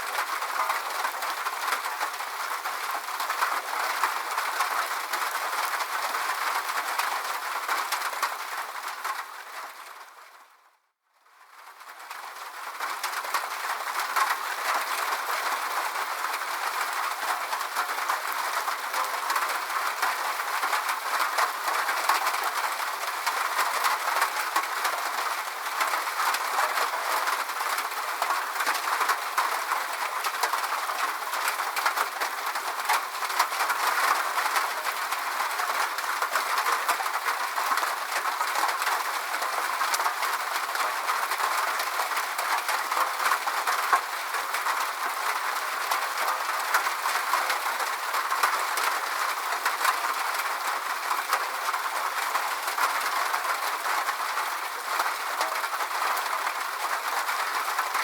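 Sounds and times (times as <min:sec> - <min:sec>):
rain pattering: 0:00.0 - 0:10.7, 0:11.3 - 0:58.0.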